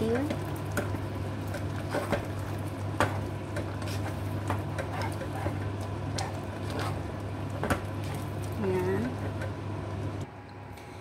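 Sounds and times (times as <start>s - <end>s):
spatula scraping pot: 0.7s - 9.6s.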